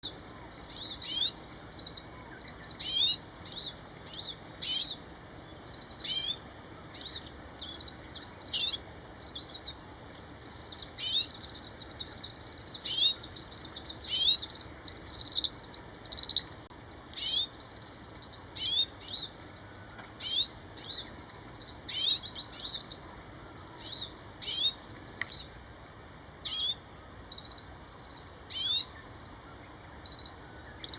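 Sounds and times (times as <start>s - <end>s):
buzzy bird trill: 0.0s - 16.5s, 17.2s - 19.6s, 20.2s - 30.9s
bird twittering calls: 0.0s - 30.9s.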